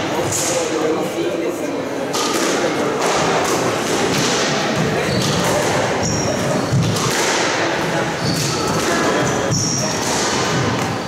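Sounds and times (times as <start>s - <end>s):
rackets striking ball: 2.1s - 11.0s.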